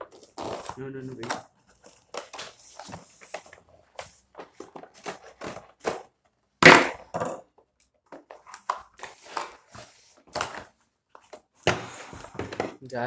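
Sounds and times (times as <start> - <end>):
cardboard and paper rustling: 0.0 - 6.3, 8.1 - 12.9.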